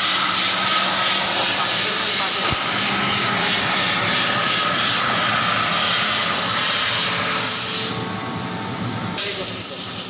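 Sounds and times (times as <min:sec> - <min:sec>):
laser cutter hissing: 0:00.0 - 0:08.1, 0:09.1 - 0:10.0.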